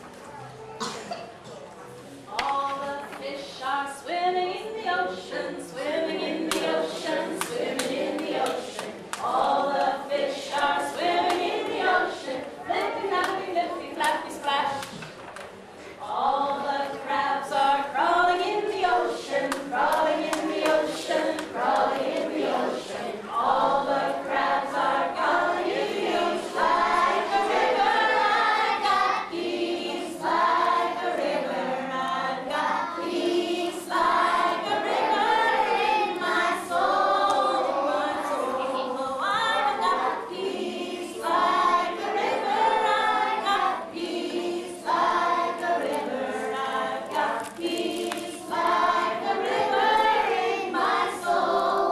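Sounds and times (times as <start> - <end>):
children and woman singing: 2.3 - 15.0, 16.0 - 51.9.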